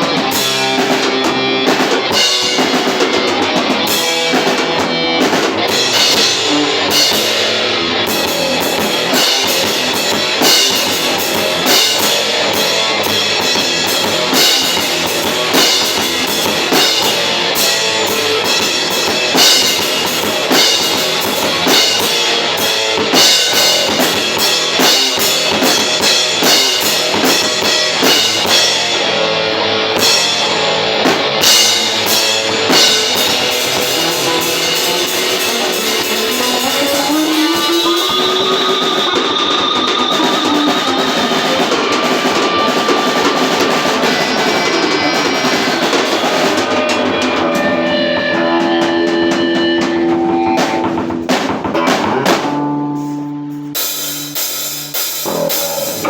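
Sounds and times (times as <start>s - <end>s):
bass guitar: 0.0s - 56.0s
drum kit with heavy cymbals: 0.0s - 56.0s
electric guitar: 0.0s - 56.0s.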